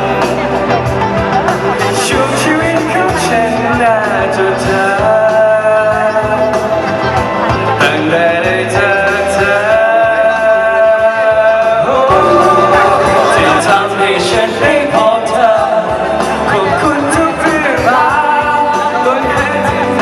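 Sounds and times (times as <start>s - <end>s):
band accompaniment: 0.0s - 20.0s
man singing long notes: 1.9s - 7.1s, 7.7s - 20.0s.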